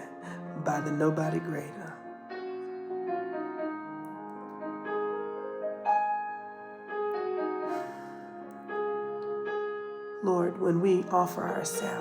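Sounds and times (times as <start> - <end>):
soft piano-like keyboard music: 0.0 - 12.0.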